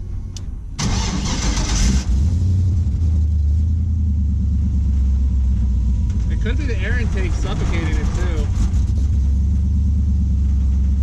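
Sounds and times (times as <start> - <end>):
truck engine starting and idling: 0.0 - 11.0.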